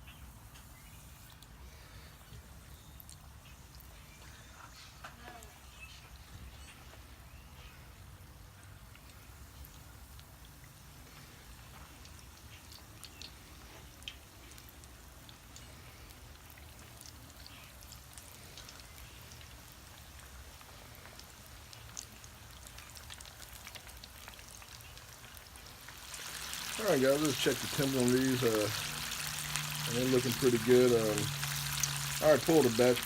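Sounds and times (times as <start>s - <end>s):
oil sizzling with crackles: 0.0s - 33.0s.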